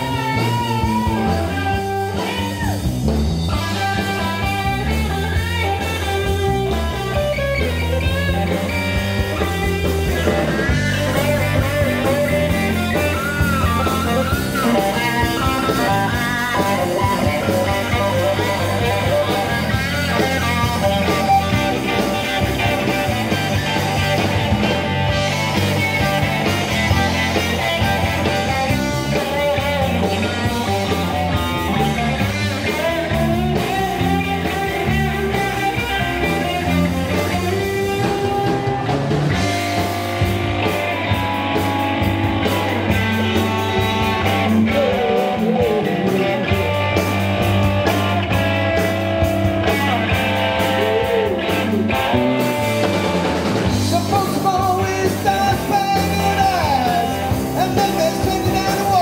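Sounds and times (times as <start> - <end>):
bending lead guitar notes: 0.0 - 59.0
live rock band playing: 0.0 - 59.0.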